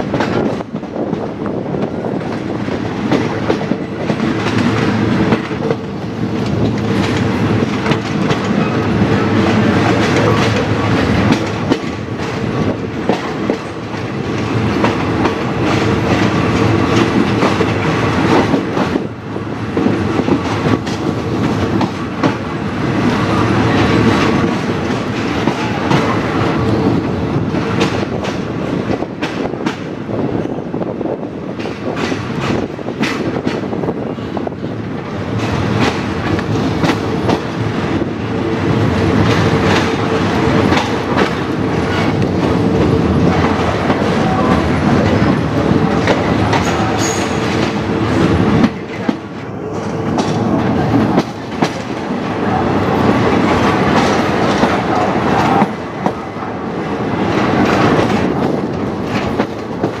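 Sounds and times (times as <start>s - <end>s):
wheels clacking over rail joints: 0.0s - 30.5s, 31.5s - 60.0s
train coaches rumbling: 0.0s - 60.0s.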